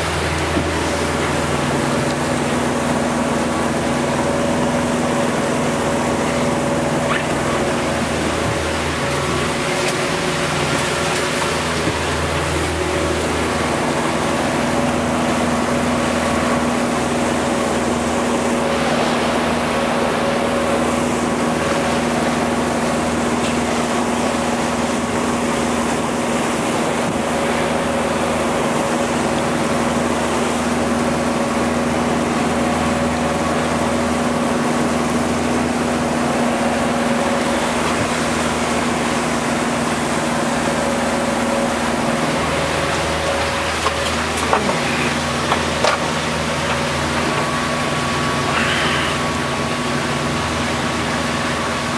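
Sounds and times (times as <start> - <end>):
outboard motor droning: 0.0 - 51.9
water rushing past hull: 0.0 - 51.9.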